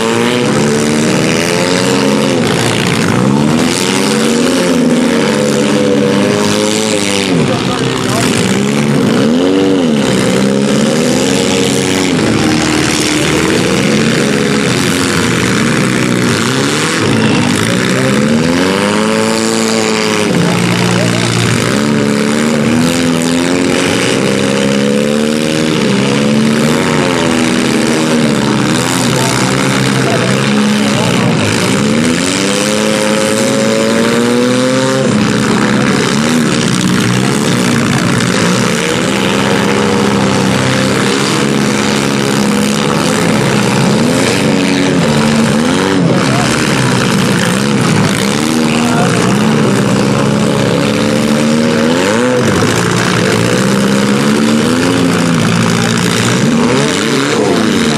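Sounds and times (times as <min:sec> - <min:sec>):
car engines revving: 0:00.0 - 0:57.9.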